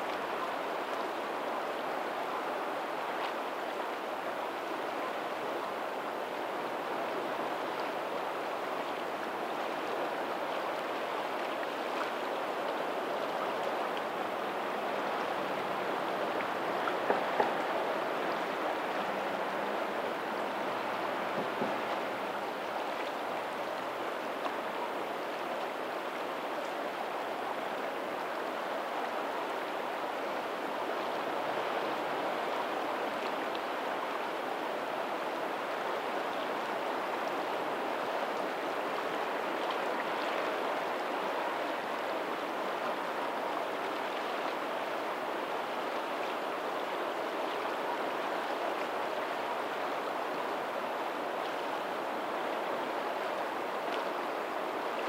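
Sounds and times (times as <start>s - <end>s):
faint ocean surf: 0.0s - 55.0s.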